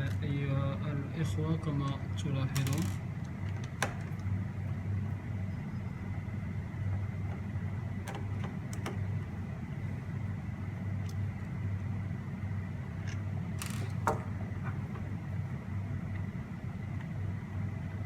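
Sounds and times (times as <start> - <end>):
low pulsing hum: 0.0 - 18.0.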